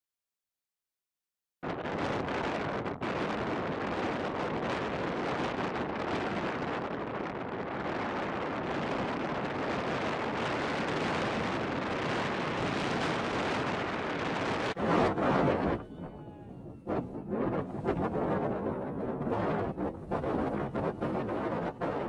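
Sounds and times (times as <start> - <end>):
wind blowing across microphone: 1.6 - 22.0.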